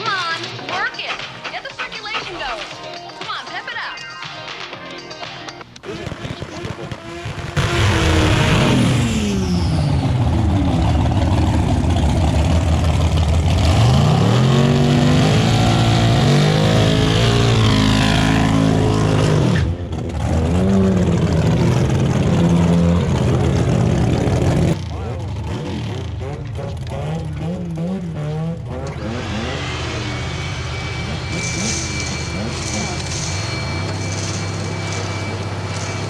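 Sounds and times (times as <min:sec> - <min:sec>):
engine running: 0:05.7 - 0:36.0
racing car engines accelerating: 0:05.8 - 0:36.0.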